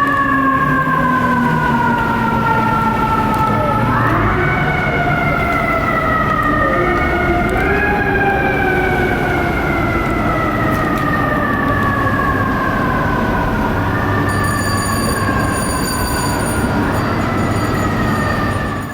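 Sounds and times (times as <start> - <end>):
fire engine siren winding: 0.0 - 18.9
traffic rumble: 0.0 - 18.9.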